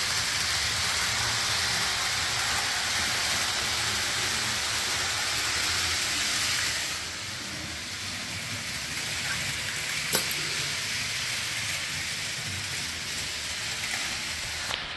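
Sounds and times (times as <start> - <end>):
model train rolling: 0.0 - 14.9.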